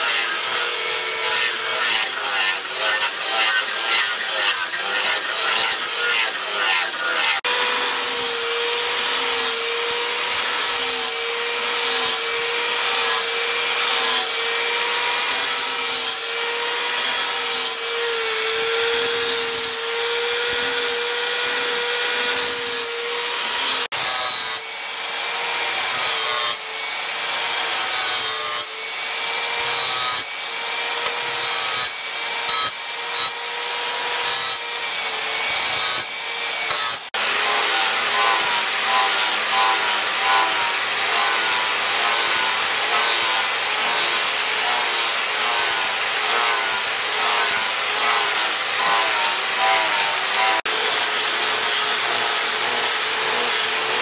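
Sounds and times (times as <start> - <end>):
angle grinder whine: 0.0 - 54.0.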